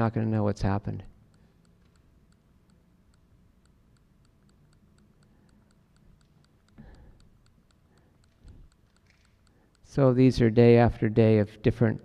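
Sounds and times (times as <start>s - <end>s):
soft ticking: 1.0s - 11.1s.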